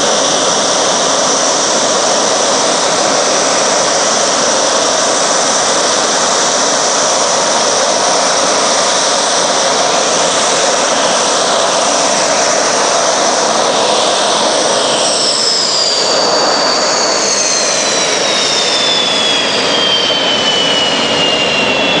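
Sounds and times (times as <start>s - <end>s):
jet engine roar with whine: 0.0s - 22.0s.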